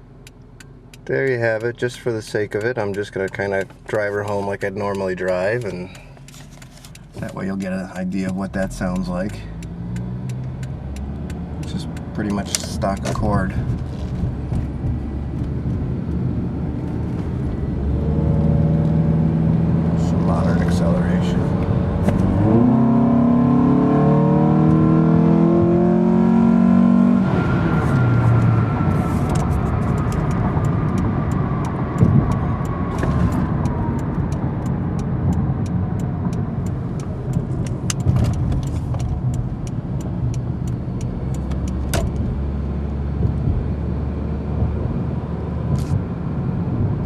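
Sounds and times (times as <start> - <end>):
car engine accelerating: 0.0 - 47.0
road noise: 0.0 - 47.0.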